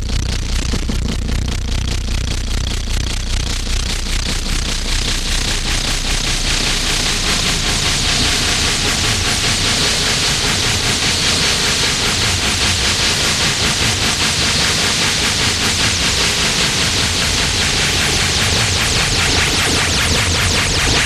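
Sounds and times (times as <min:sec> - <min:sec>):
harsh noise music: 0:00.0 - 0:21.0.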